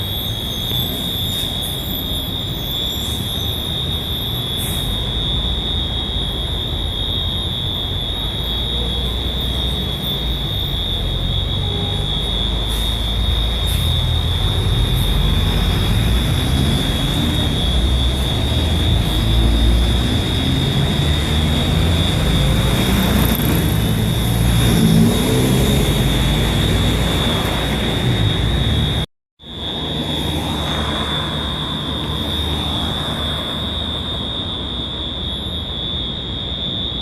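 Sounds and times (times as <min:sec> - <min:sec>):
fire alarm high-pitched tone: 0:00.0 - 0:37.0.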